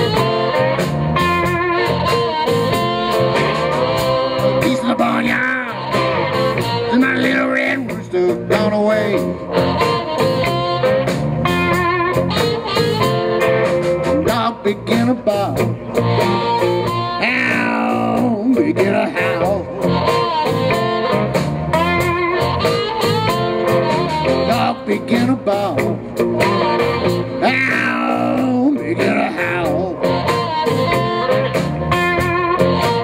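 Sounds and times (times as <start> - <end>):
drums: 0.0 - 33.0
electric slide guitar: 0.0 - 33.0.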